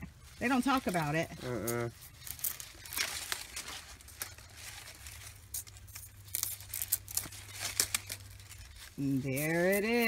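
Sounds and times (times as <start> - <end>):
knife scraping sugarcane rind: 0.0 - 10.0.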